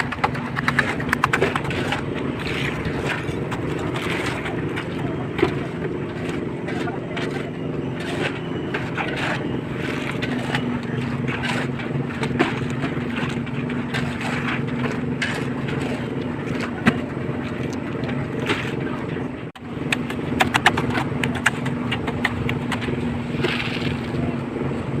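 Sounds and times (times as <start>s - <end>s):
concrete mixer engine running: 0.0s - 25.0s.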